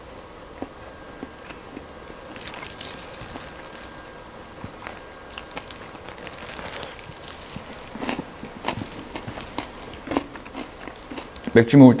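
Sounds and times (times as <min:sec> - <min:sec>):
chewing crispy fried chicken: 0:00.6 - 0:11.8.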